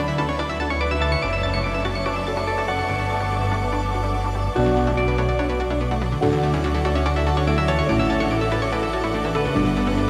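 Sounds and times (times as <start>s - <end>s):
sustained bass line: 0.0s - 10.0s.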